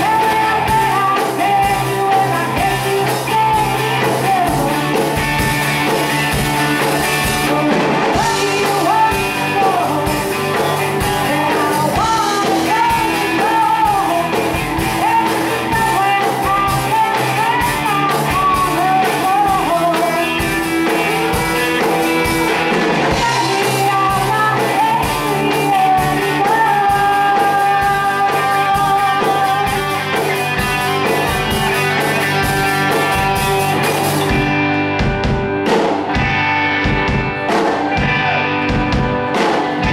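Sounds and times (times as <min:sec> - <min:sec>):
woman singing lead: 0:00.0 - 0:34.5
bass: 0:00.0 - 0:39.9
distorted electric guitars: 0:00.0 - 0:39.9
drum kit: 0:00.0 - 0:39.9
keyboards: 0:00.0 - 0:39.9.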